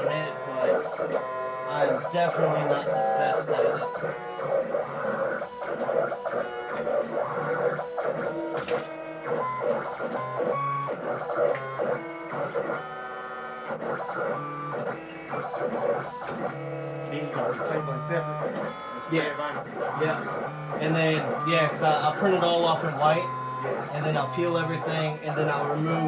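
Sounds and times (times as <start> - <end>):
cutting machine motors whining: 0.0 - 26.0.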